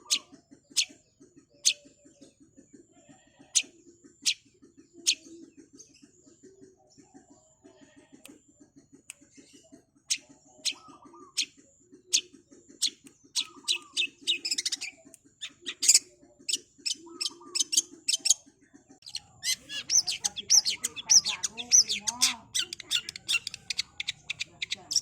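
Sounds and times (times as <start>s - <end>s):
low rapid bird chatter: 0.0s - 25.0s.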